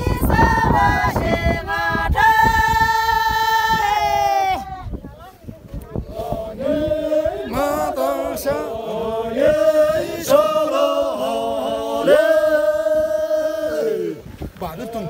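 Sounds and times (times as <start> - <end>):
men singing unaccompanied: 0.0 - 4.6, 6.0 - 15.0.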